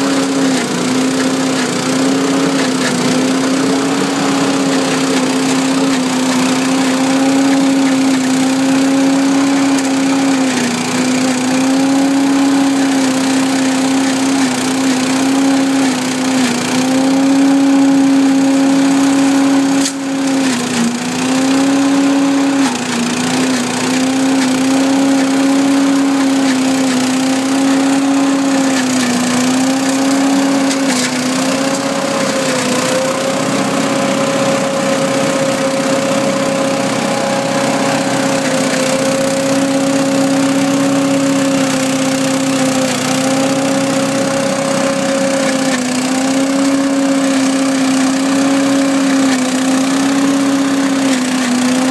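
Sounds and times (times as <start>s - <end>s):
petrol engine running: 0.0s - 51.9s.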